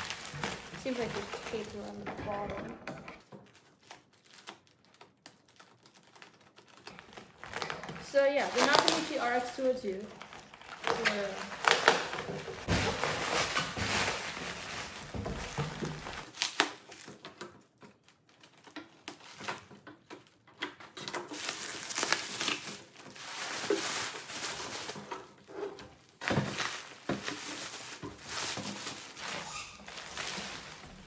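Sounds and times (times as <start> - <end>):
bubble wrap crinkling: 0.0 - 2.6, 3.2 - 31.0.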